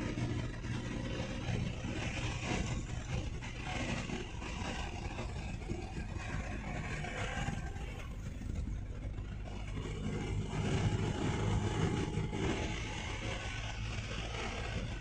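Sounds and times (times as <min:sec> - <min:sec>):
road noise: 0:00.0 - 0:15.0
vehicle engine hum: 0:00.0 - 0:15.0.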